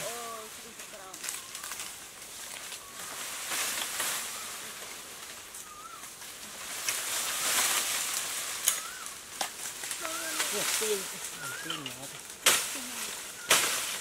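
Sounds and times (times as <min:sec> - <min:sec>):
bamboo leaves rustling: 0:00.0 - 0:14.0
bamboo stems cracking: 0:00.0 - 0:14.0.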